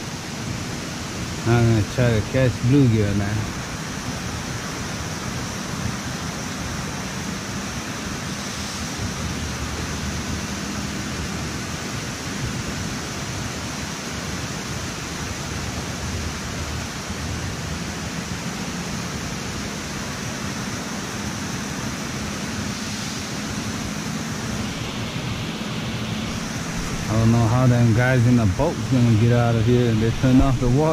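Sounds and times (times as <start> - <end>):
fast-flowing river water rushing: 0.0 - 30.9.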